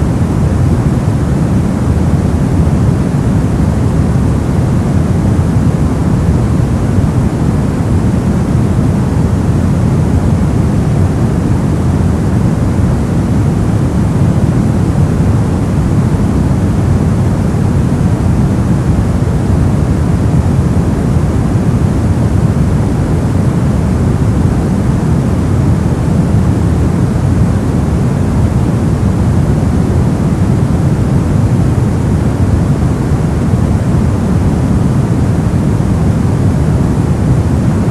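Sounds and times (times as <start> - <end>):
deep rumbling brown noise: 0.0 - 37.9.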